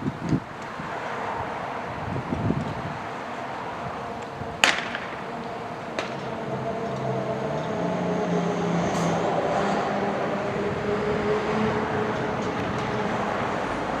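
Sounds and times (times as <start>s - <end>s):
road traffic hiss: 0.0s - 14.0s
warning siren winding down: 1.8s - 14.0s.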